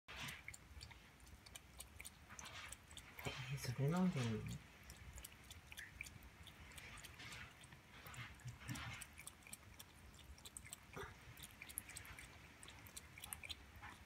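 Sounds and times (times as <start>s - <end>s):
cat lapping water: 0.1s - 14.0s.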